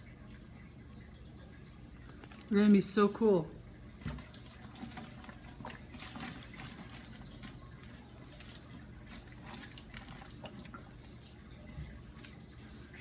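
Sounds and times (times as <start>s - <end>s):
low steady hum: 0.0s - 13.0s
small splashes: 0.0s - 13.0s
water trickling and dripping: 0.0s - 13.0s.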